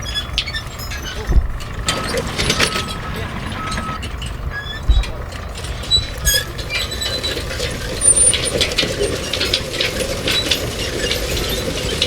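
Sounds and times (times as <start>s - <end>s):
mechanical clicking and clattering: 0.0s - 12.0s.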